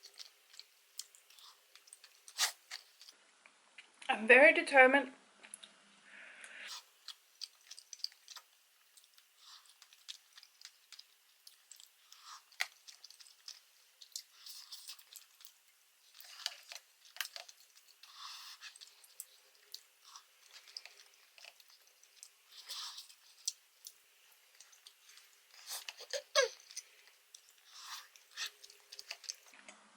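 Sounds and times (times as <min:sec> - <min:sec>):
person chewing with wet mouth sounds: 0:00.0 - 0:03.2, 0:06.6 - 0:29.6.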